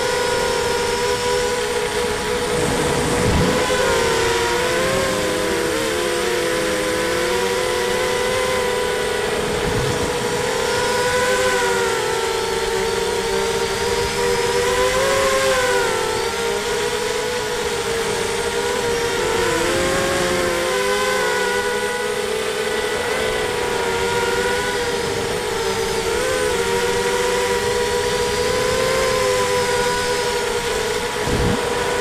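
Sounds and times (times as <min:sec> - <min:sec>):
quadcopter motors buzzing: 0:00.0 - 0:32.0.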